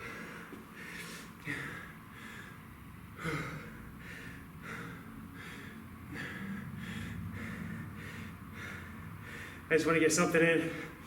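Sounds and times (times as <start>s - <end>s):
man panting hard: 0.0s - 9.7s, 10.6s - 11.0s.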